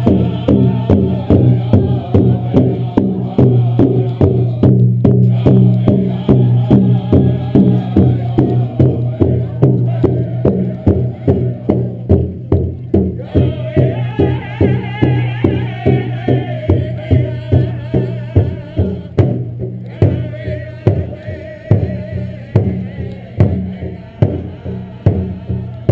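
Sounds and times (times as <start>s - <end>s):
high wavering voices singing: 0.0s - 12.2s, 13.2s - 19.2s, 19.8s - 25.9s
even drumbeat: 0.0s - 25.9s.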